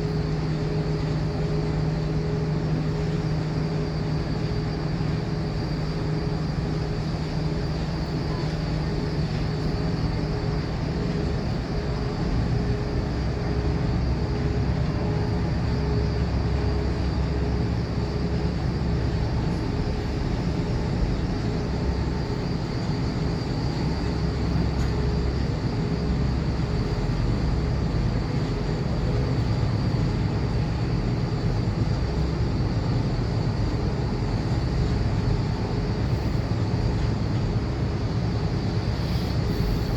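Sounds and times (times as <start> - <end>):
machinery drone: 0.0 - 39.9.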